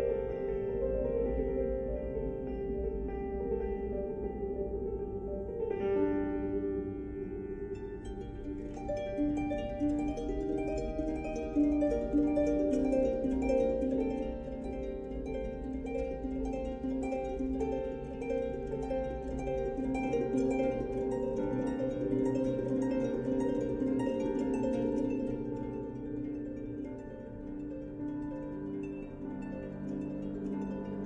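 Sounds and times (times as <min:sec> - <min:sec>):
gentle plucked-string melody: 0:00.0 - 0:31.0.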